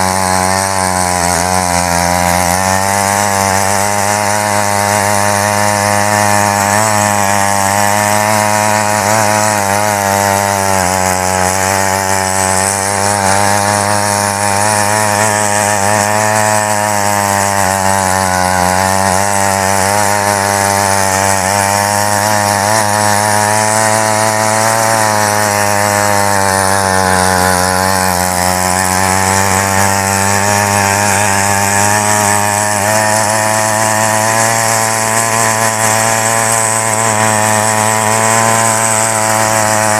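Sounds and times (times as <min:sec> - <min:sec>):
rotary tines churning soil: 0:00.0 - 0:39.9
small petrol engine running: 0:00.0 - 0:39.9.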